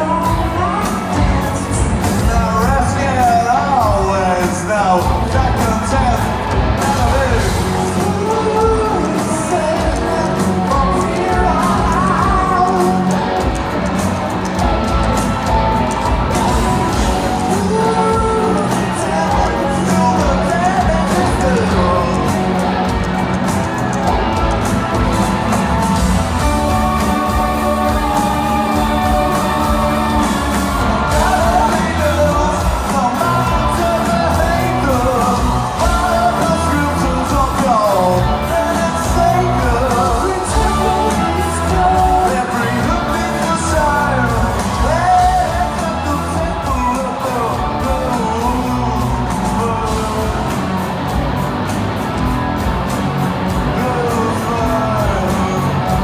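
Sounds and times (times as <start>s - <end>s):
person singing: 0.0s - 51.5s, 53.5s - 56.0s
bass guitar: 0.0s - 56.0s
drums: 0.0s - 56.0s
guitars: 0.0s - 56.0s.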